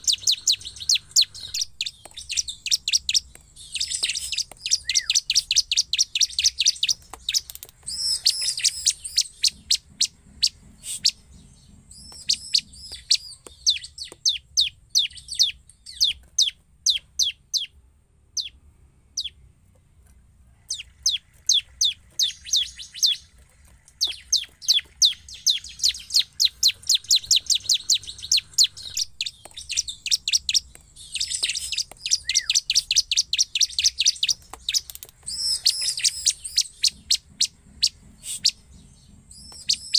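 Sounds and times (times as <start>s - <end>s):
bird singing fast trills: 0.0s - 19.5s, 20.6s - 39.9s.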